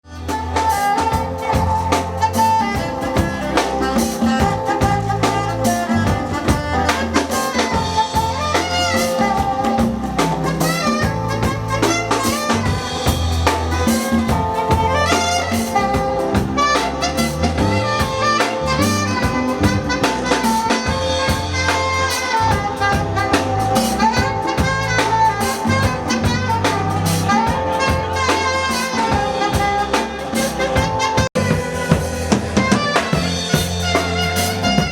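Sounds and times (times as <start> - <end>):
bass line: 0.0 - 34.9
live band playing: 0.0 - 34.9
wavering melody line: 0.0 - 34.9
drum hits: 0.6 - 34.9.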